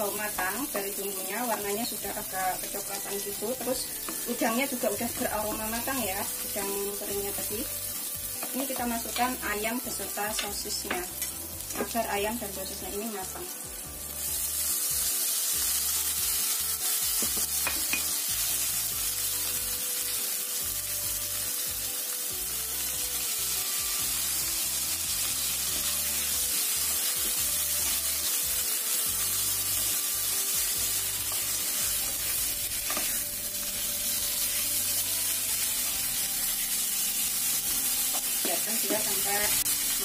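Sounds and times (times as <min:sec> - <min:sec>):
meat sizzling in a frying pan: 0:00.0 - 0:40.0.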